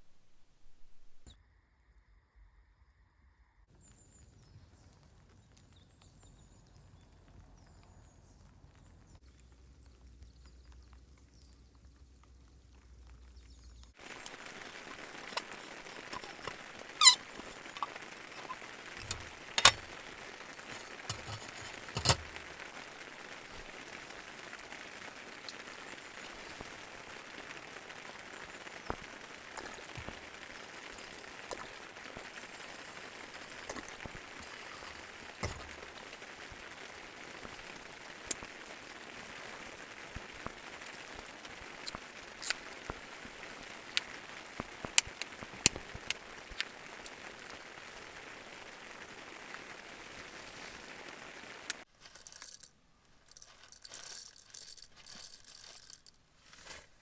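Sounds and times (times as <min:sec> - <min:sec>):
campfire crackling and popping: 0:03.8 - 0:56.1.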